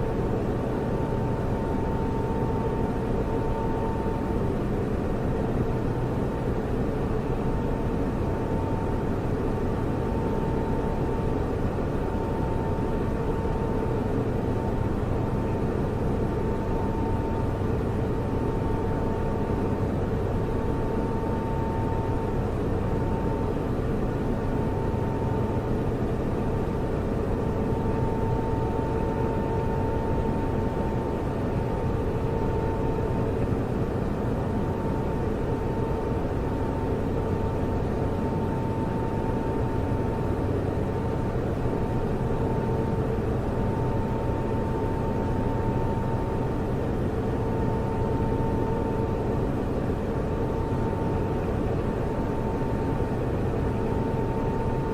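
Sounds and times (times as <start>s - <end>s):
computer servers whirring: 0.0s - 54.9s
faint steady whine: 0.0s - 54.9s.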